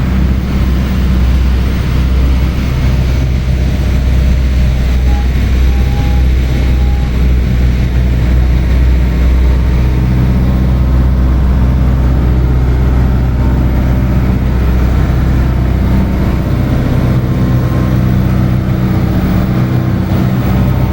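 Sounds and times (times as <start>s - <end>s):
boat engine humming: 0.0s - 20.9s
water wash: 0.0s - 20.9s.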